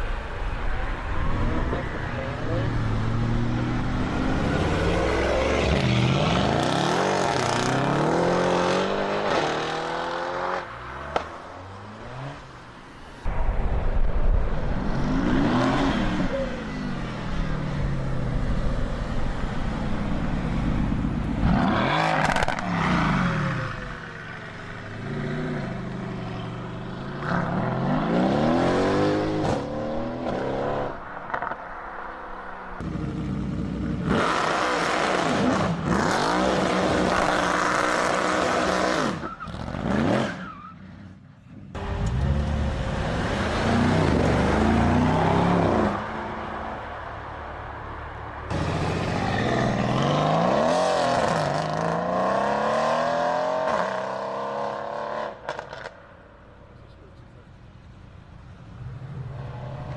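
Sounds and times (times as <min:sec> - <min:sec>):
cars passing with loud exhaust: 0:00.0 - 0:59.9.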